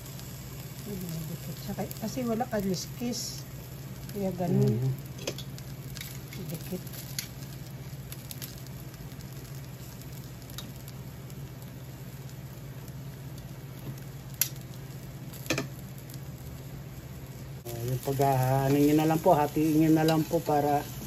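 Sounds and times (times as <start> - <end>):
fish sizzling on a grill: 0.0 - 21.0
low steady hum: 0.0 - 21.0.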